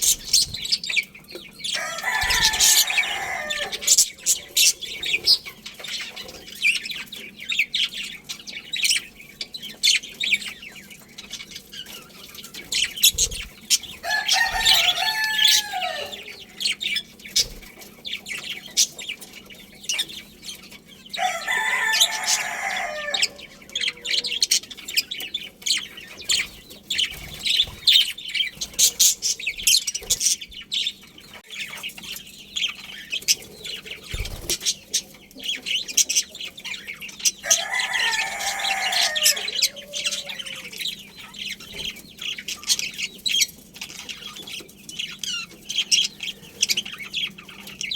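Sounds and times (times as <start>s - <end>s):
budgerigars chirping: 0.0s - 47.9s.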